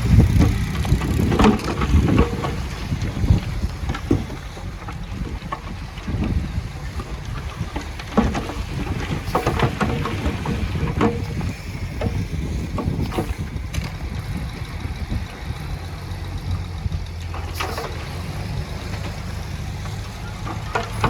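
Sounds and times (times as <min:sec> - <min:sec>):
metal knocks and clanks: 0:00.0 - 0:14.6, 0:17.1 - 0:21.0
diesel engine rumbling: 0:00.0 - 0:21.0.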